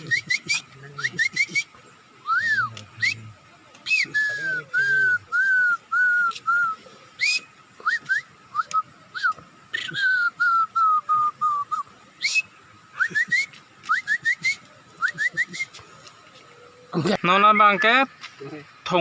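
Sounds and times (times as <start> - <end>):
person whistling bird call: 0.0 - 15.8.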